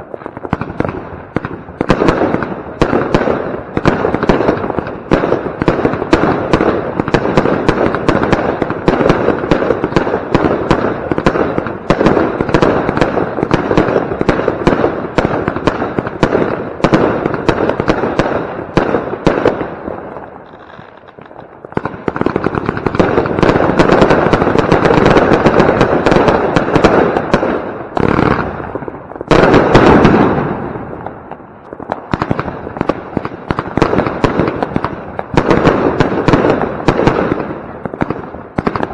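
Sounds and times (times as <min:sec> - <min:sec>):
firework battery shots and crackling: 0:00.0 - 0:38.9.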